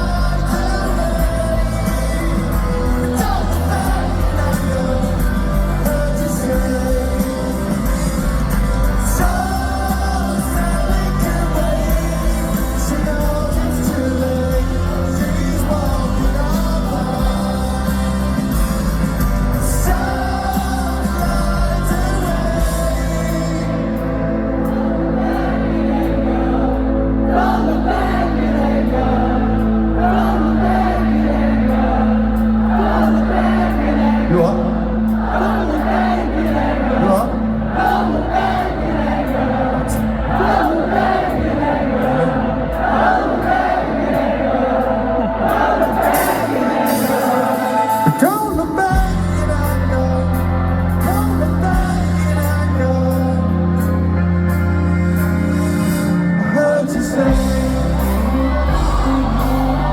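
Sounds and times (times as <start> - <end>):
person singing: 0.0 - 26.5, 27.3 - 59.9
rock band playing live: 0.0 - 59.9.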